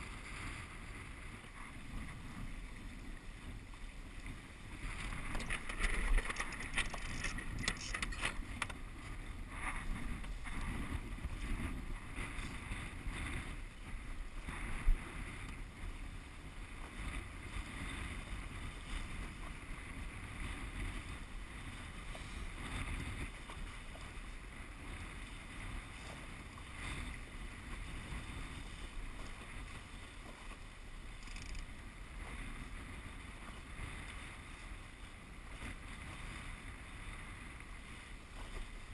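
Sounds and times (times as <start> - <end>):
water splashing along boat hull: 0.0 - 38.9.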